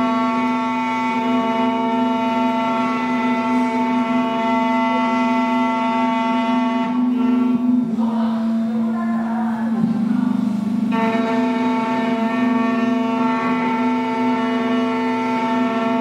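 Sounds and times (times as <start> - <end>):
key cutting machine whine: 0.0 - 7.8, 10.6 - 16.0.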